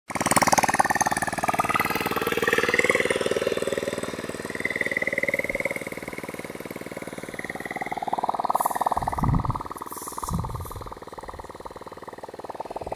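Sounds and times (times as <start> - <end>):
motorcycle pump engine running: 0.1 - 12.9.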